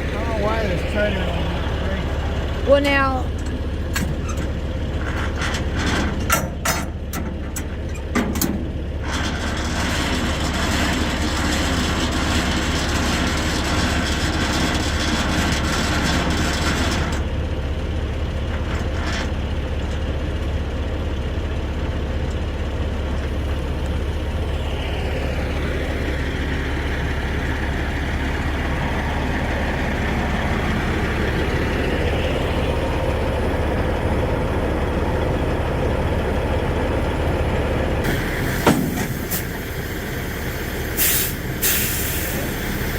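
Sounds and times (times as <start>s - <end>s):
diesel truck engine rumbling: 0.0s - 42.9s.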